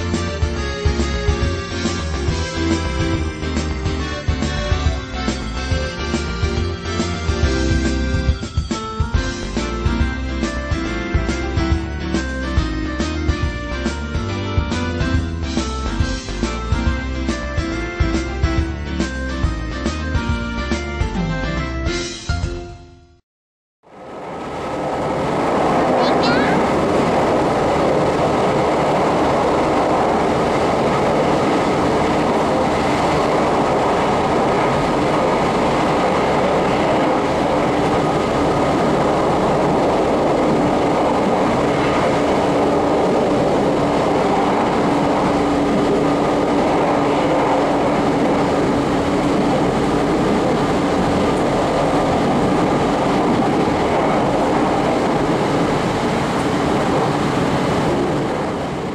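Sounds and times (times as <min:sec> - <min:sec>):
train rumbling: 0:00.0 - 0:21.6, 0:23.8 - 0:58.9.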